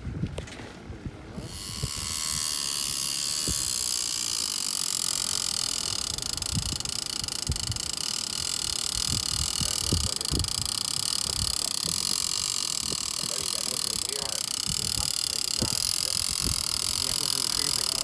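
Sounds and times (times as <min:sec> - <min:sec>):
fishing reel drag buzzing: 0:01.4 - 0:18.0.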